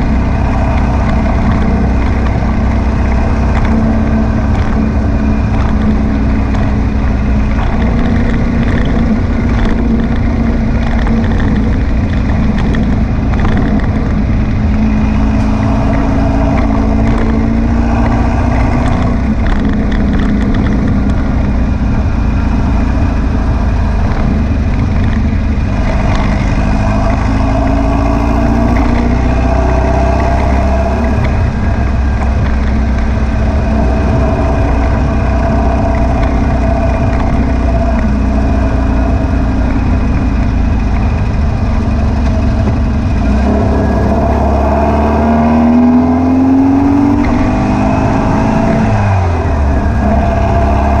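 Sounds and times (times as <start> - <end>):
air-cooled engine revving: 0.0 - 51.0.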